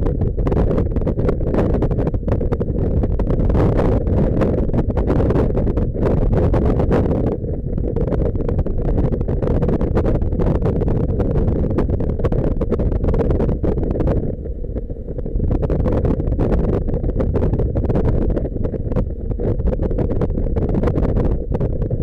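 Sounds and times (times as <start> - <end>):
motorcycle engine and road noise: 0.0 - 22.0
wind buffeting microphone: 0.0 - 22.0.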